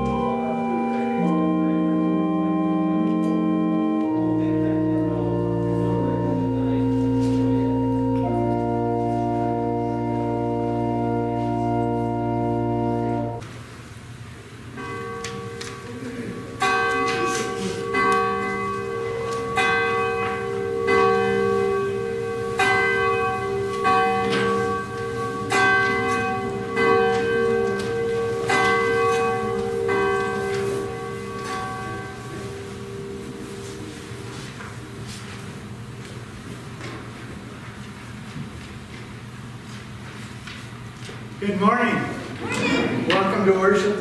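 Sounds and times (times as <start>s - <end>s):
church bell ringing: 0.0s - 13.5s, 14.6s - 37.0s.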